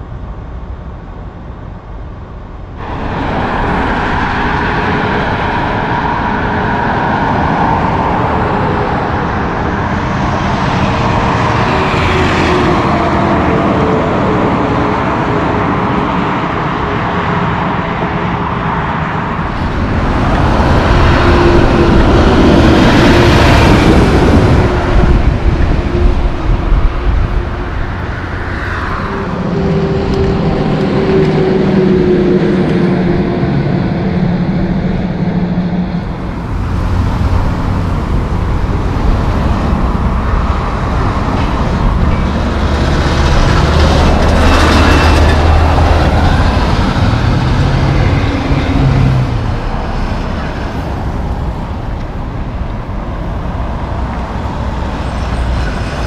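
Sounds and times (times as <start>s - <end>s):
diesel trucks driving past: 0.0s - 56.0s
road traffic: 0.0s - 56.0s.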